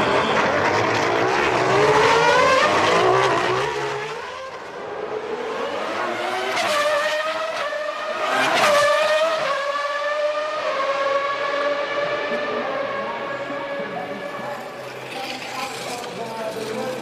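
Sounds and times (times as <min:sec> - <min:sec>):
high-revving racing engines: 0:00.0 - 0:17.0
race cars sweeping past: 0:00.0 - 0:17.0.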